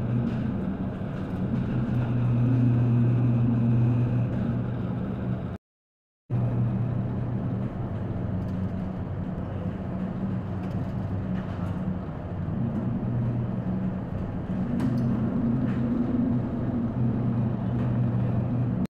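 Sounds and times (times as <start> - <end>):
ship engine hum: 0.0 - 5.6, 6.3 - 18.9.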